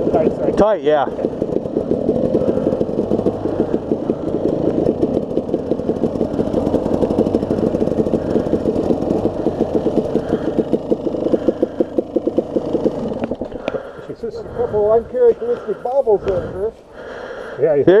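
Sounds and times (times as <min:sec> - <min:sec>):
dirt bike engines idling: 0:00.0 - 0:18.0.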